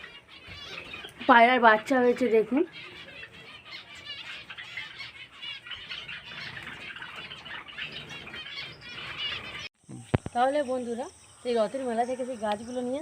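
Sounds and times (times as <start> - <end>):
small cage birds chirping: 0.0 - 13.0.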